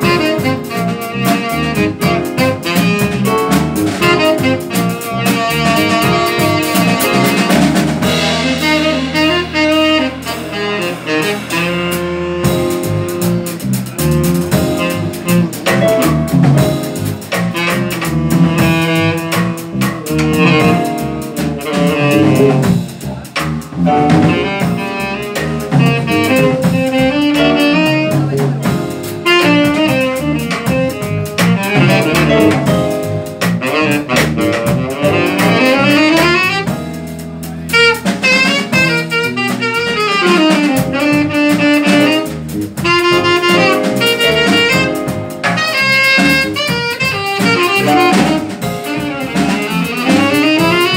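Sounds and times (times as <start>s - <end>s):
bass: 0.0s - 50.9s
drums: 0.0s - 50.9s
piano: 0.0s - 50.9s
saxophone: 0.0s - 50.9s.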